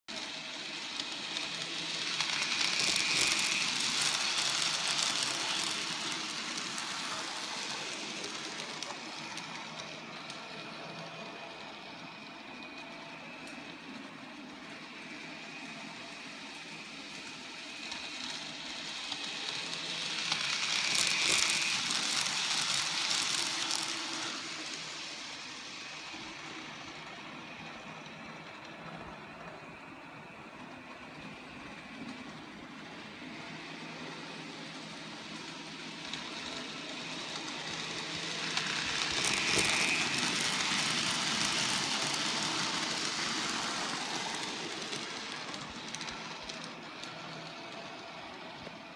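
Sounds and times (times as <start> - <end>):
model train motor whine: 0.1 - 48.9
wheels on track: 0.1 - 48.9.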